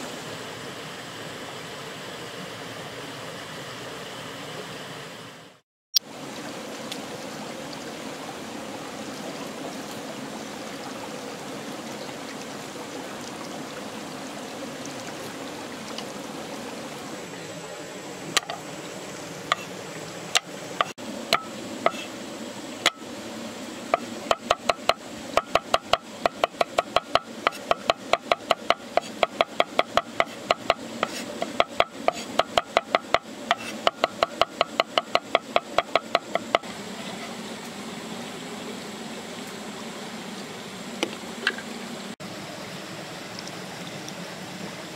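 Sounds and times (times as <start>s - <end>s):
stream running: 0.0s - 44.9s.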